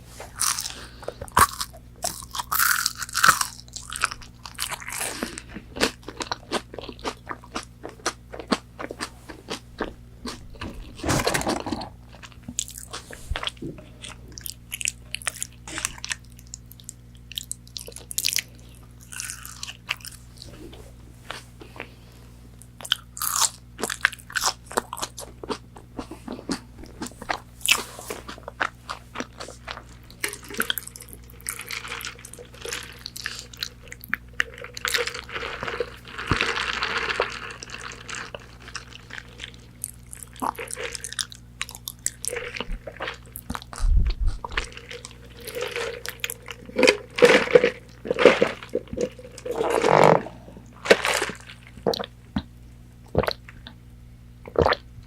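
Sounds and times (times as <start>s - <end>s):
crunchy biting and chewing: 0.3s - 21.9s, 22.6s - 53.8s.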